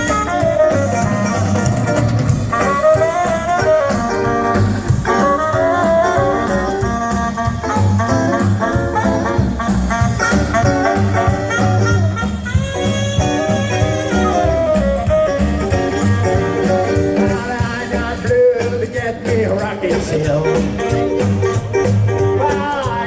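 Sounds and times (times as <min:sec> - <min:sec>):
saxophone and brass: 0:00.0 - 0:18.7, 0:20.4 - 0:23.0
bass and drum beat: 0:00.0 - 0:23.0
live band playing swing: 0:00.0 - 0:23.0.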